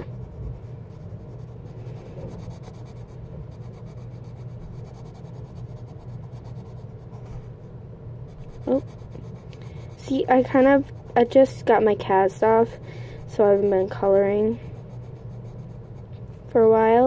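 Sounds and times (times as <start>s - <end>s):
pencil scratching on paper: 0.0s - 7.5s, 8.3s - 16.8s
low steady hum: 0.0s - 17.0s.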